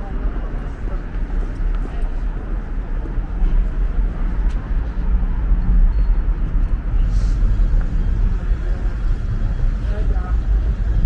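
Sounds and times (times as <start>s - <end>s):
low rumble of city ambience: 0.0s - 11.0s.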